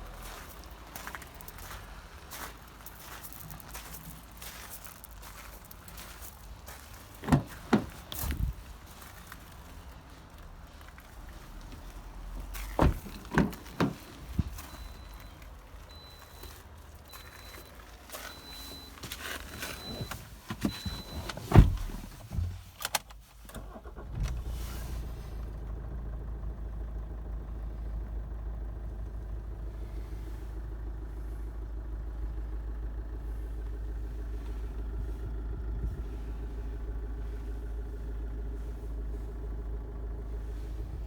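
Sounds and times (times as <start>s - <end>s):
diesel engine starting and idling: 0.0s - 41.0s.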